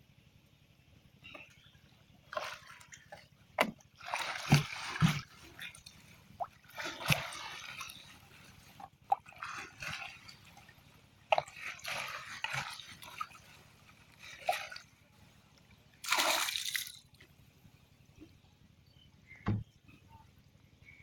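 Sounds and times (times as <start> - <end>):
water splashing and sloshing: 1.2 - 18.3.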